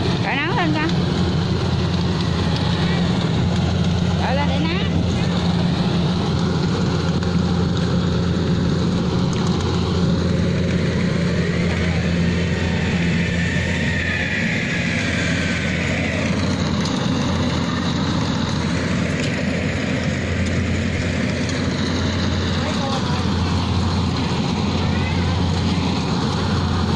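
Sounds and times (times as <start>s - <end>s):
combine harvester engine drone: 0.0s - 26.9s.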